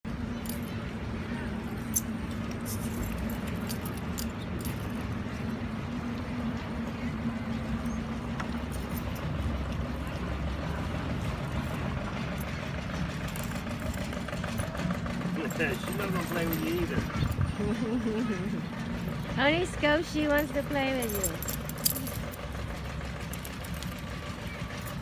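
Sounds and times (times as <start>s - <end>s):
motor engine running: 0.1s - 25.0s.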